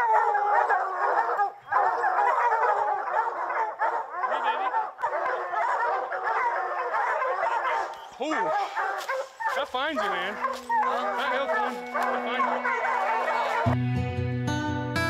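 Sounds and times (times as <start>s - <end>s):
hounds baying: 0.0s - 13.8s.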